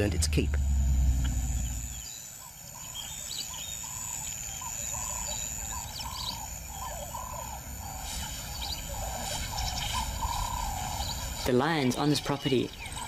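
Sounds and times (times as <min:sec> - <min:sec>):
high chirps: 0:00.6 - 0:11.4.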